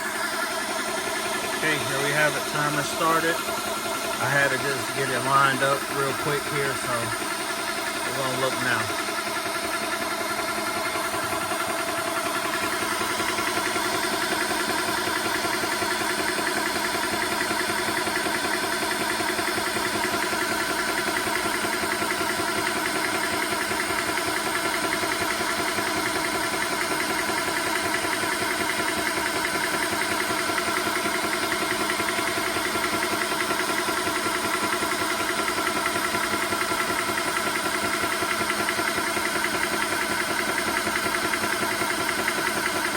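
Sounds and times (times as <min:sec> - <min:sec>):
air compressor running: 0:00.0 - 0:42.9.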